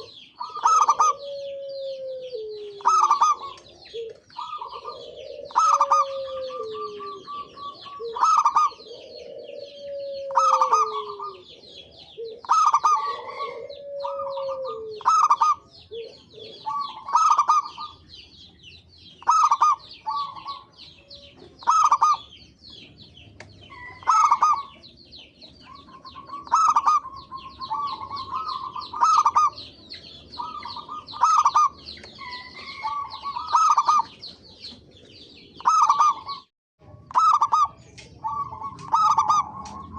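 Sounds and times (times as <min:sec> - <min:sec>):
low falling bird calls: 0:00.0 - 0:36.5, 0:37.1 - 0:39.9
doves cooing: 0:00.0 - 0:39.9
small birds chirping: 0:00.0 - 0:39.9.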